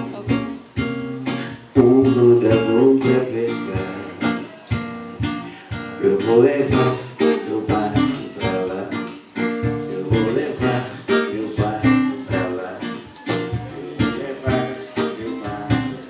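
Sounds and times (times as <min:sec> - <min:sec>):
acoustic guitar strumming: 0:00.0 - 0:16.0
person singing: 0:00.0 - 0:16.0.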